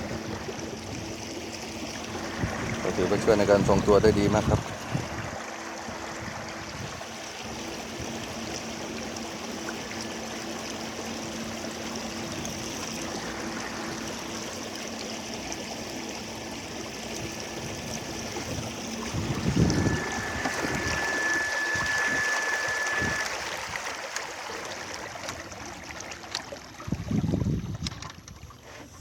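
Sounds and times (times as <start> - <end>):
faint low engine drone: 0.0 - 27.3
water rushing along boat hull: 0.0 - 29.0.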